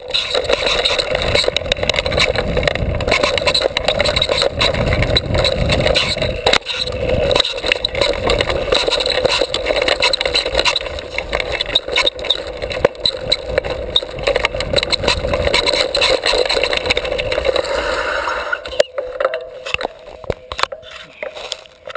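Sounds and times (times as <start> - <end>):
bike rattling over bumps: 0.0 - 21.9
bike tyres on dirt trail: 0.0 - 21.9.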